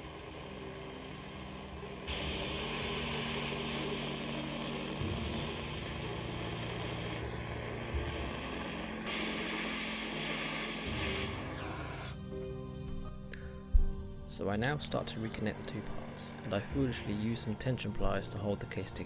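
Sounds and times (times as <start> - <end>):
gas torch flame hissing: 0.0 - 12.2, 14.6 - 19.0
soft background music: 0.0 - 19.0.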